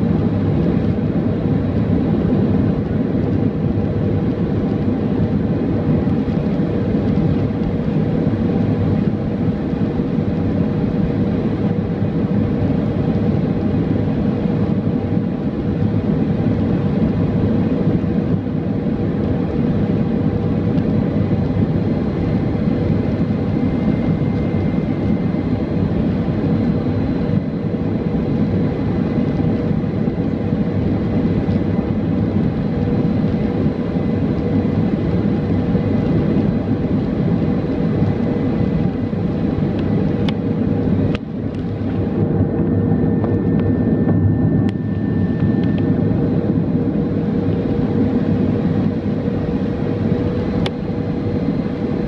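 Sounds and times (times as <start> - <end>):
airplane cabin engine drone: 0.0 - 52.0.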